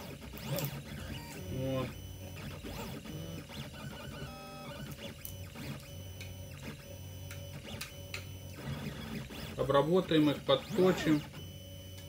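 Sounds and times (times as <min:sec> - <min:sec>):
stepper motors whirring: 0:00.0 - 0:12.0.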